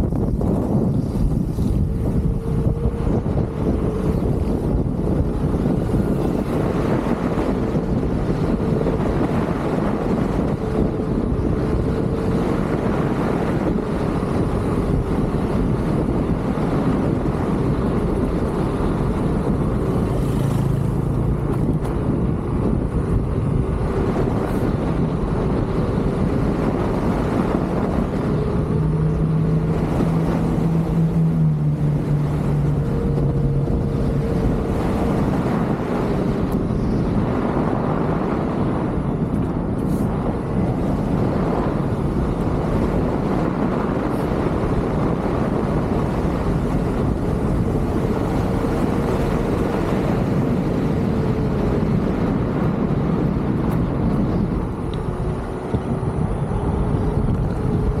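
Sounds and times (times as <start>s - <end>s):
hub motor humming: 0.0s - 58.0s
wind rushing over microphone: 0.0s - 58.0s.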